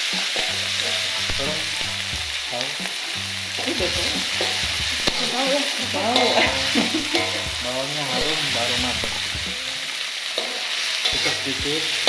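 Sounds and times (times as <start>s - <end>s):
spatula scraping and tapping wok: 0.0s - 5.5s, 6.2s - 12.0s
food sizzling in oil: 0.0s - 12.0s.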